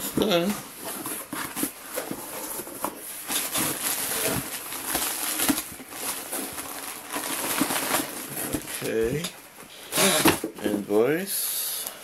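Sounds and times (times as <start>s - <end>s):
packing material and cardboard rustling: 0.0s - 11.0s.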